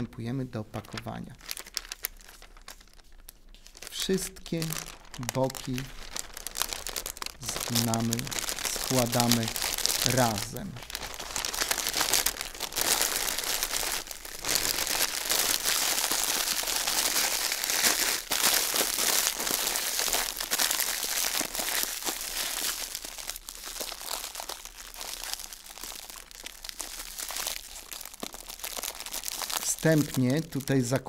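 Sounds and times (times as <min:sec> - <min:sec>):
cellophane and paper crinkling: 0:00.0 - 0:31.0.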